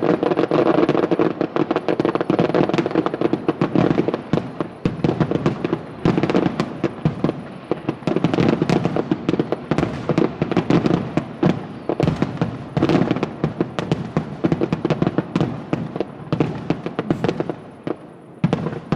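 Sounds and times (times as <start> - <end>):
fireworks bursts and crackling: 0.0 - 18.9.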